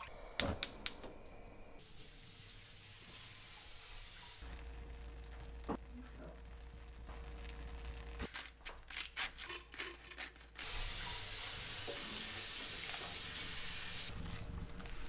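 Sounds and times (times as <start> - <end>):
frying sizzle: 1.8 - 15.0.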